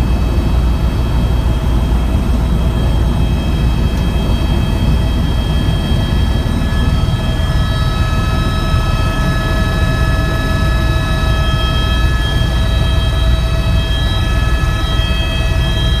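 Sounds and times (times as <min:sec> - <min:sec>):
helicopter low drone: 0:00.0 - 0:16.0
high whining tones: 0:01.2 - 0:16.0.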